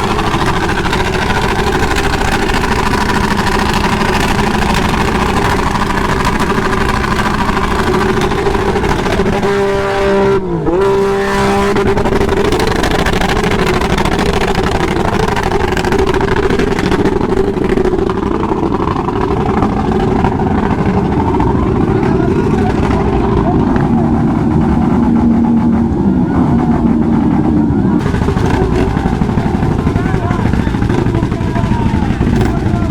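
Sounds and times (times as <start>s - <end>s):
motorcycle engines running: 0.0s - 32.9s.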